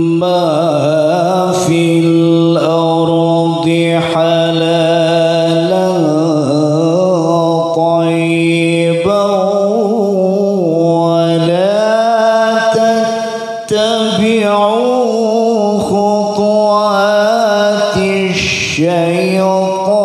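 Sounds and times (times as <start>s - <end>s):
man reciting melodically: 0.0s - 20.0s.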